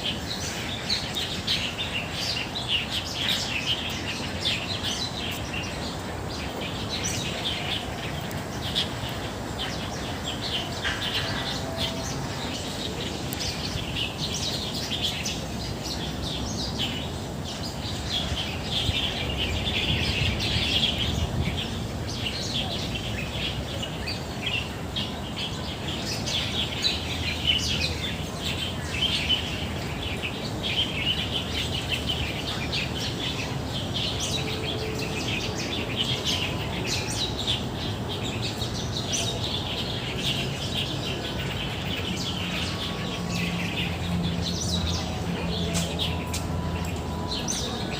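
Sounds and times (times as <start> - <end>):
small birds chirping and twittering: 0.0 - 47.9.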